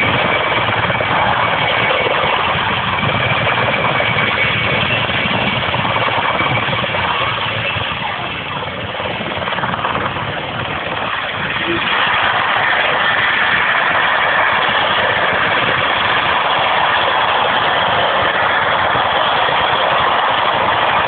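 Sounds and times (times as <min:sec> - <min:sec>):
helicopter rotor and turbine noise: 0:00.0 - 0:21.0.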